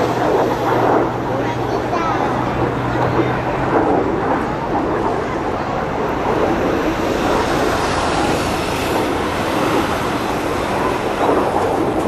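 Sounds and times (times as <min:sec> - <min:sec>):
jet aircraft flying: 0:00.0 - 0:12.0.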